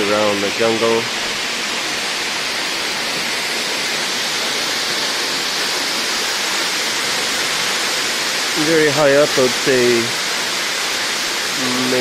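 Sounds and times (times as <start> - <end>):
waterfall pouring onto rocks: 0.0 - 12.0.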